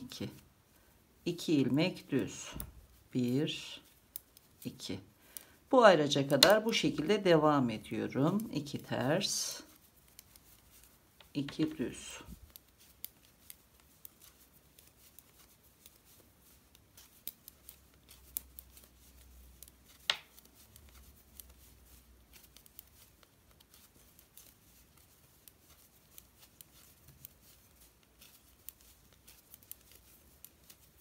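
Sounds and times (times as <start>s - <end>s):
knitting needles clicking: 1.3s - 31.0s.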